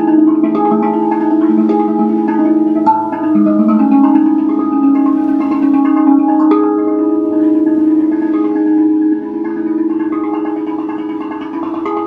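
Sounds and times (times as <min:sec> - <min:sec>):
steel tongue drum melody: 0:00.0 - 0:12.0.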